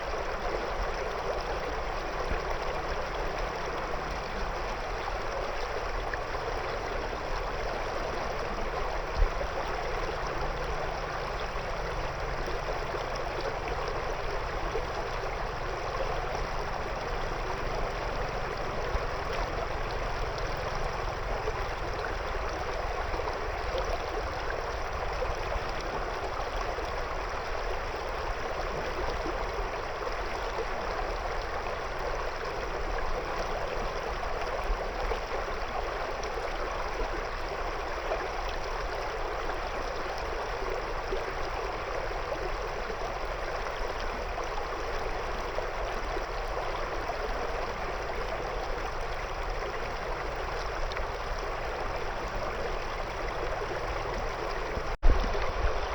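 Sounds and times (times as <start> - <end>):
river water flowing over stones: 0.0 - 55.9.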